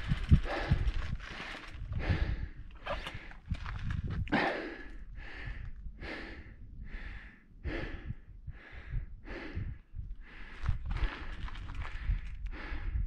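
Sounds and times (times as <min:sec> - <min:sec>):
person breathing hard: 0:00.0 - 0:03.4, 0:04.3 - 0:13.0.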